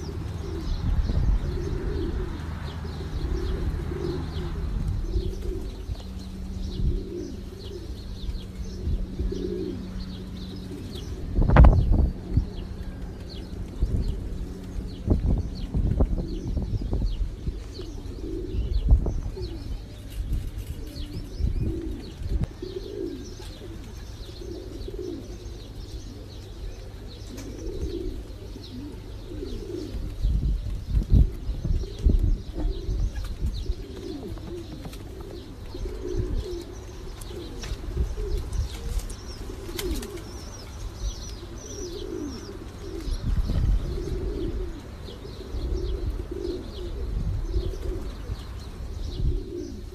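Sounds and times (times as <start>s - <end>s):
pigeons cooing: 0.0s - 49.9s
small birds chirping: 0.0s - 49.9s.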